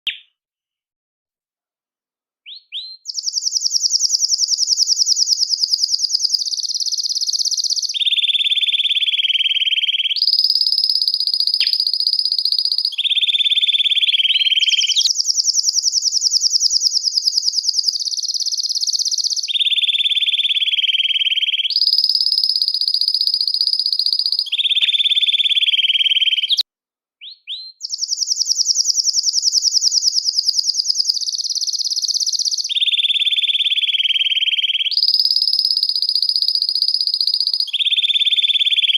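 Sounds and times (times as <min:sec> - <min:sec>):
canary chirps: 0:02.4 - 0:26.6, 0:27.2 - 0:38.9
canary singing trills: 0:02.4 - 0:26.6, 0:27.2 - 0:38.9.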